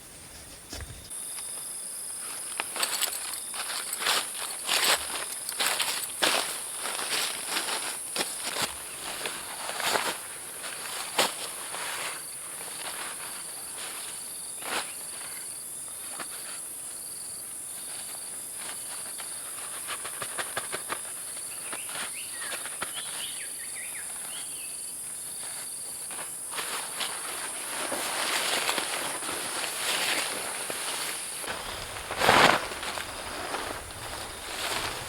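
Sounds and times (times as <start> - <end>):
forest insects droning: 0.0 - 35.0.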